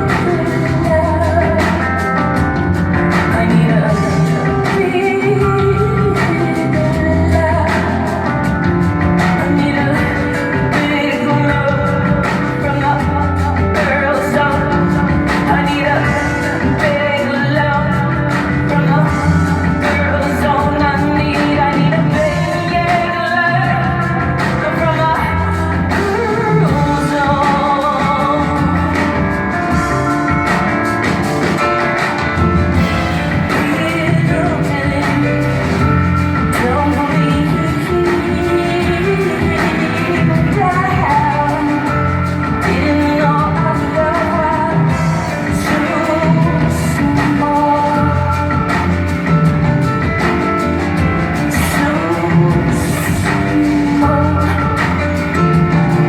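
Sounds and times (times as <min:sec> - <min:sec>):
rock band playing: 0:00.0 - 0:56.0
woman singing: 0:00.0 - 0:56.0.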